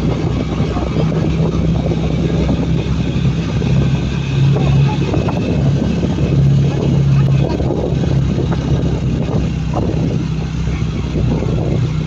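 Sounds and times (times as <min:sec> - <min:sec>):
motorcycle engine running: 0:00.0 - 0:12.0
wind on microphone: 0:00.0 - 0:12.0.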